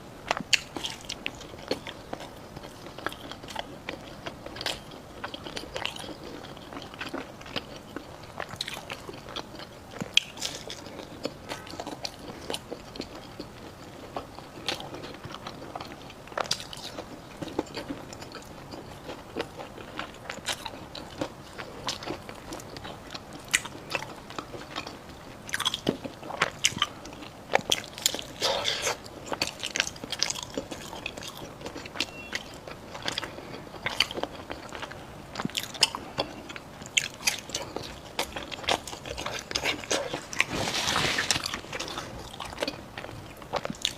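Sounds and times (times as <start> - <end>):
chewing: 0.2 - 43.9
crunching fried pastry: 0.2 - 43.9.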